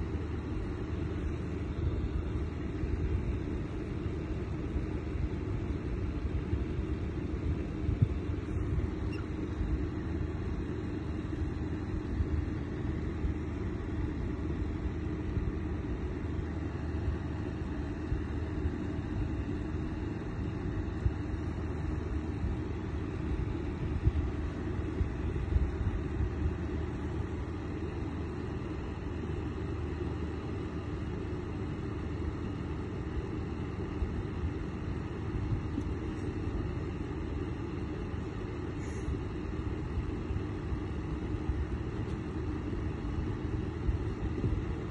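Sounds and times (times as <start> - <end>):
fan heater blowing air: 0.0 - 44.9.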